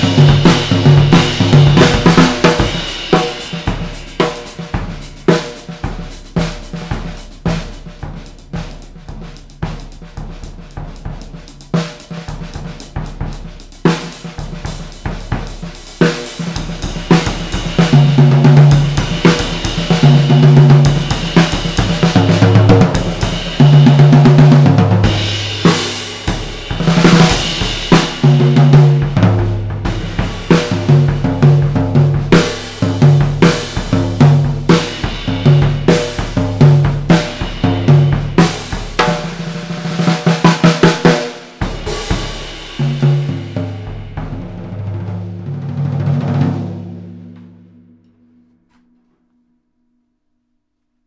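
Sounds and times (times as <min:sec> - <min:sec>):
drum kit playing a groove: 0:00.0 - 0:47.8.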